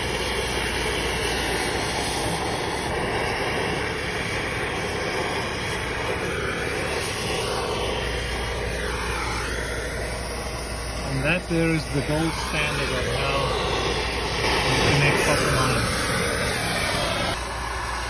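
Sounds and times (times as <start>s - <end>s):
brazing torch flame: 0.0s - 18.0s.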